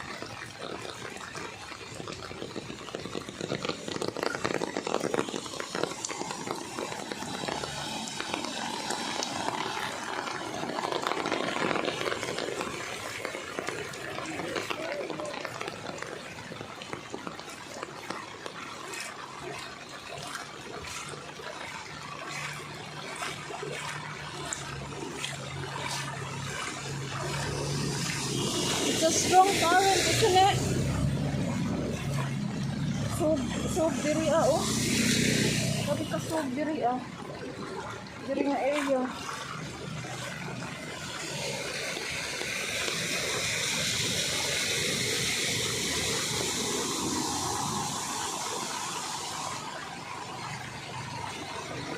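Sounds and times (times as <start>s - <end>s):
floodwater rushing and splashing: 0.0s - 51.9s.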